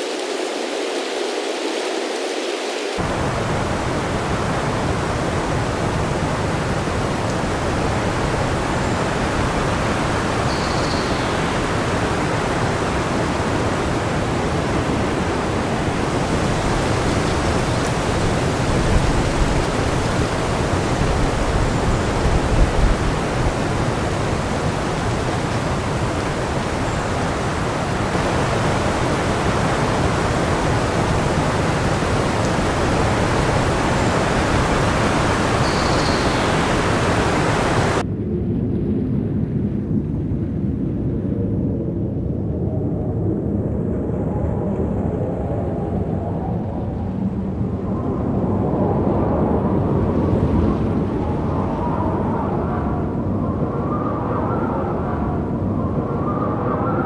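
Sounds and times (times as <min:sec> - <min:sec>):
wind blowing hard: 0:03.0 - 0:57.0.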